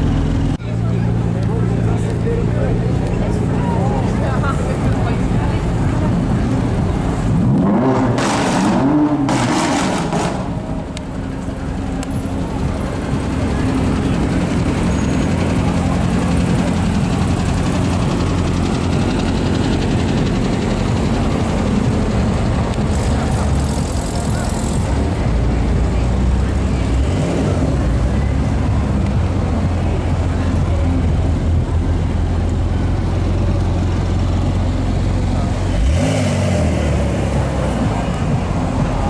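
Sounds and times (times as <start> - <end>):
car engine running at low revs: 0.0 - 39.0.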